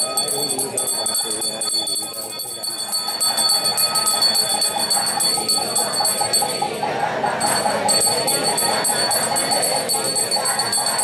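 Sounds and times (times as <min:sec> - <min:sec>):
hand bell jingling: 0:00.0 - 0:06.7, 0:07.4 - 0:11.0.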